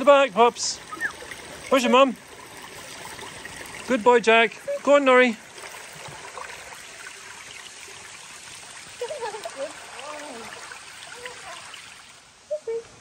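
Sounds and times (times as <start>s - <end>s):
small stream running: 0.0s - 13.0s.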